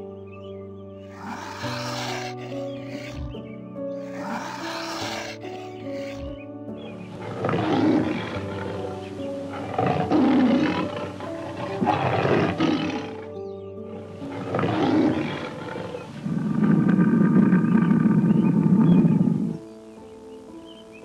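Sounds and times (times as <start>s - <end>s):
soft piano music: 0.0s - 21.0s
big cat roaring and growling: 1.1s - 3.4s, 4.0s - 6.4s, 7.0s - 19.6s.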